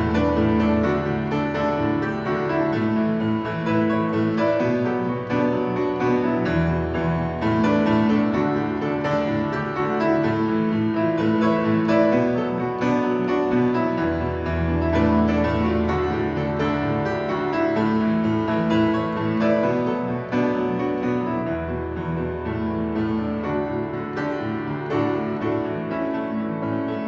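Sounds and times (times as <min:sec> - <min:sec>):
solo upright piano: 0:00.0 - 0:27.0.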